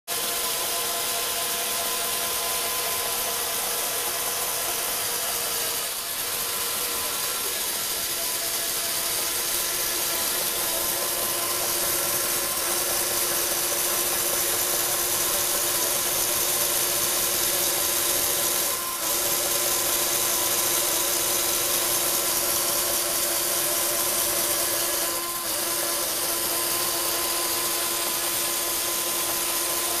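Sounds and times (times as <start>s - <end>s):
electric motors and gears whirring: 0.1s - 30.0s.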